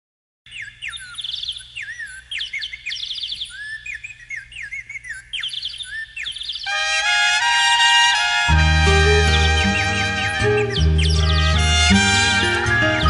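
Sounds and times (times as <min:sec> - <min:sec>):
birds singing: 0:00.5 - 0:07.6, 0:08.4 - 0:13.0.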